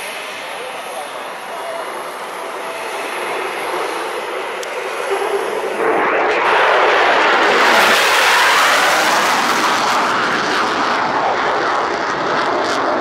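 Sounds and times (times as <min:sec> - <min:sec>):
fighter jet flying past: 0:00.0 - 0:13.0.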